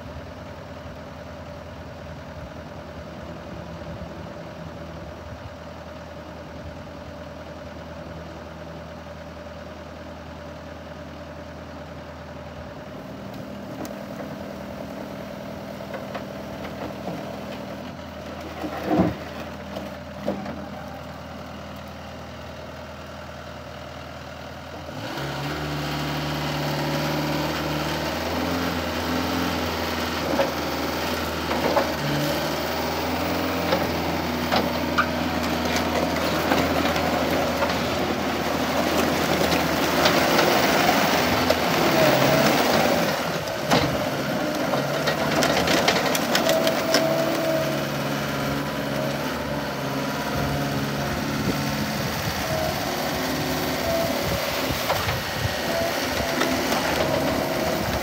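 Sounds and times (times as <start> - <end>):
diesel engine revving: 10.5 - 58.0.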